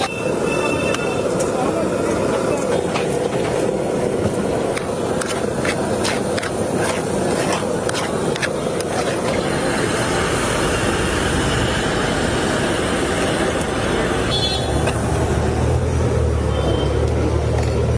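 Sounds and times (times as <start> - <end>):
passing traffic: 0.0 - 17.9.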